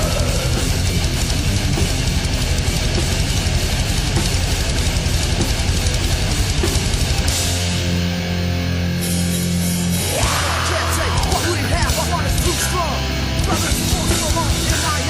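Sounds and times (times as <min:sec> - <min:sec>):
fast dense drumming: 0:00.0 - 0:08.2, 0:09.4 - 0:15.0
distorted electric guitars: 0:00.0 - 0:15.0.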